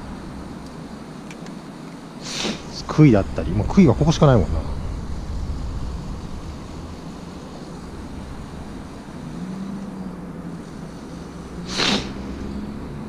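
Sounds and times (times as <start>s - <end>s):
distant vehicle engine humming: 0.0s - 13.0s
low rumble with light hiss: 0.0s - 13.0s.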